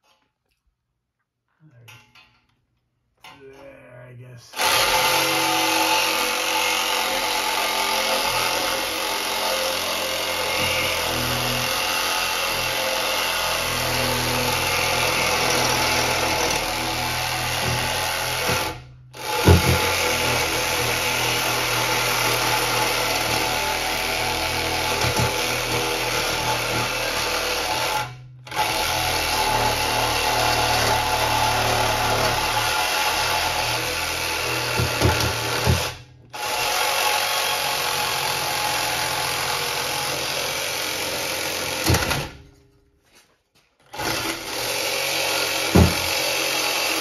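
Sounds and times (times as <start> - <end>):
reciprocating saw cutting metal pipe: 4.6 - 42.4, 44.0 - 47.0.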